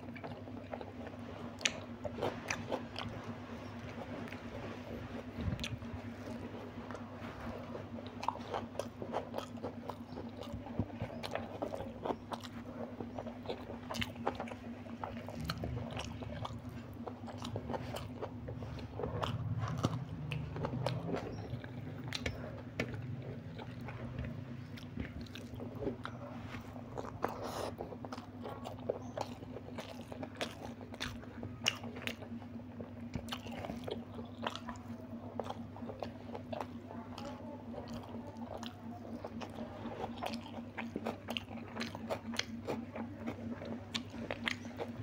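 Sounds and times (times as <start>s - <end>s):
chewing and crunching food: 0.0s - 45.0s.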